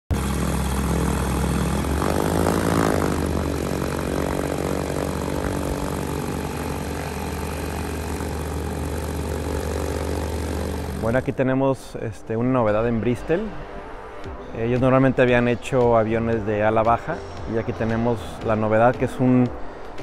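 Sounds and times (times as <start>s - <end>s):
light aircraft engine running: 0.1s - 12.0s, 13.0s - 20.0s.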